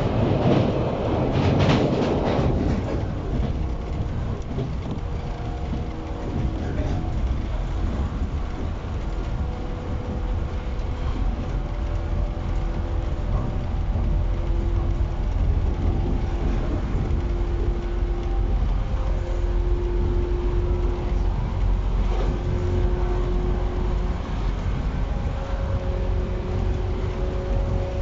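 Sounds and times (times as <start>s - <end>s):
idling train equipment rumble: 0.0s - 28.0s.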